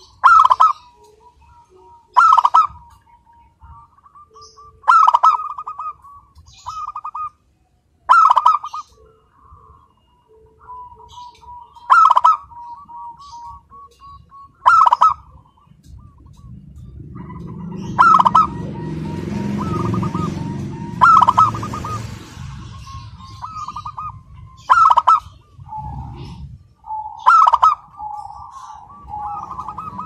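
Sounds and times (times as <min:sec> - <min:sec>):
dove cooing: 0:00.0 - 0:07.4, 0:08.1 - 0:30.0.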